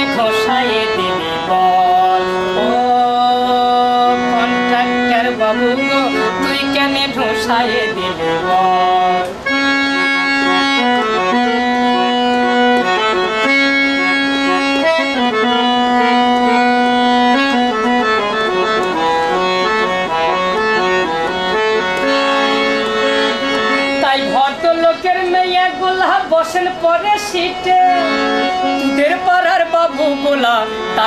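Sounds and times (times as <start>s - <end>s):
harmonium playing: 0.0s - 31.0s.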